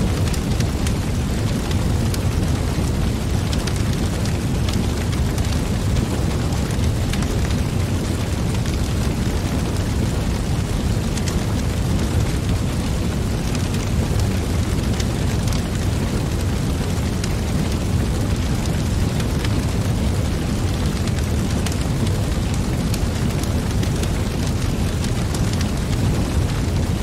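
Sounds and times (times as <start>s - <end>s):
fire crackling and popping: 0.0s - 27.0s
fire flames rushing: 0.0s - 27.0s.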